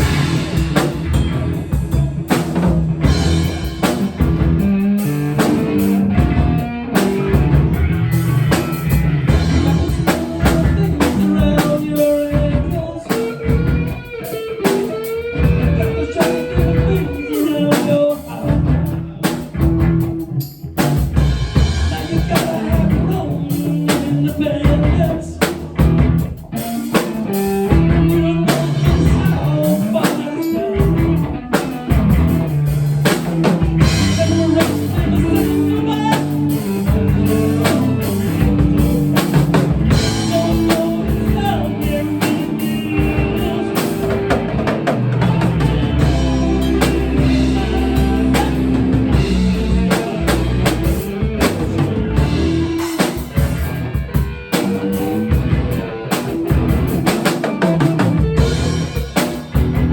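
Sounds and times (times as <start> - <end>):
rock music with drums and guitar: 0.0 - 59.9.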